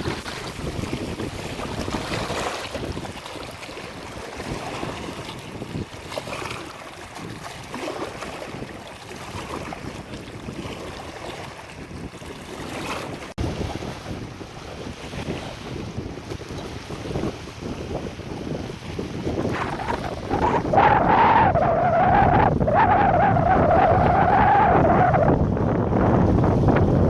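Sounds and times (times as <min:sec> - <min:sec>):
sea waves breaking: 0:00.0 - 0:27.0
wind buffeting microphone: 0:00.0 - 0:27.0.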